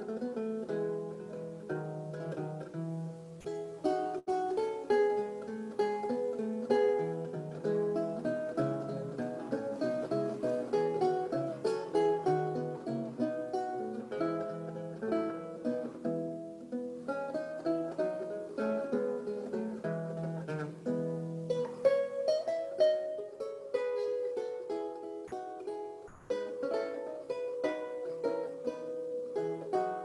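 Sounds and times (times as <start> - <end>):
plucked lute melody: 0.0 - 30.0.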